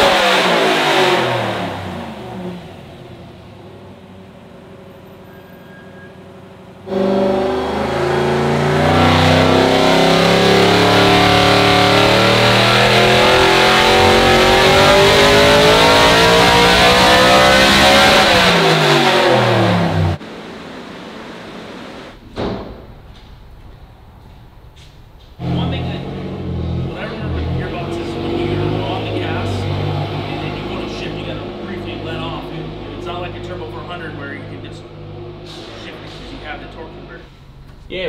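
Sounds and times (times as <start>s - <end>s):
truck engine revving under load: 0.0s - 4.0s, 6.8s - 20.2s, 23.4s - 38.0s.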